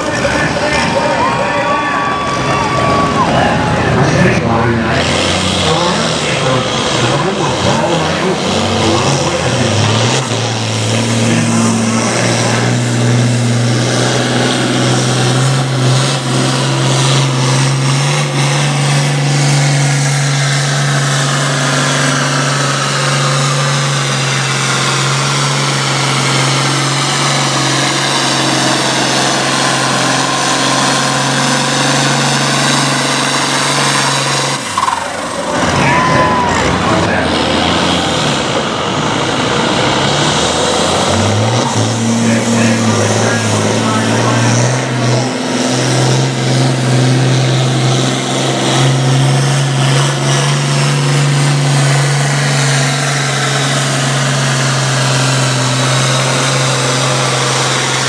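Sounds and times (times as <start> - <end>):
tractor diesel engine at full throttle: 0.0 - 58.0.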